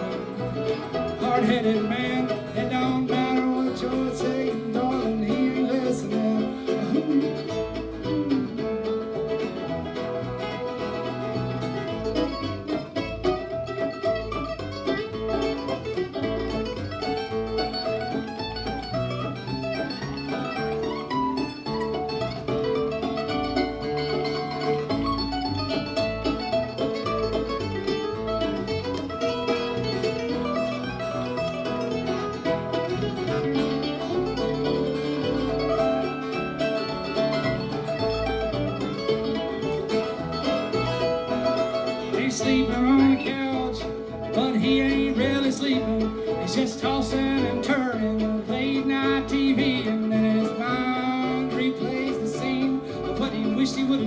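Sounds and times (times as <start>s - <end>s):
picked acoustic string instruments: 0.0s - 54.0s.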